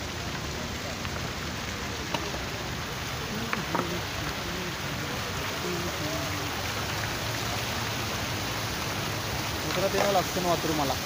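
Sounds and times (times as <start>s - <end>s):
faint people talking: 0.0s - 11.0s
water fountain splashing: 0.0s - 11.0s.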